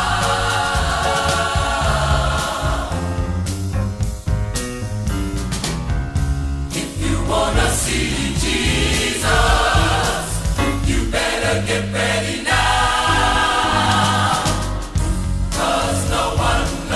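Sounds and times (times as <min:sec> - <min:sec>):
gospel choir singing: 0:00.0 - 0:03.6, 0:06.7 - 0:16.9
band with bass and percussion: 0:00.0 - 0:11.4, 0:12.0 - 0:16.9.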